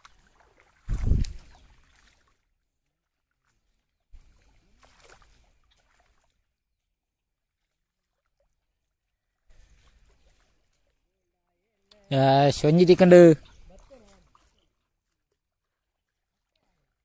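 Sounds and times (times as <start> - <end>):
splashing in shallow water: 0.0 - 17.0.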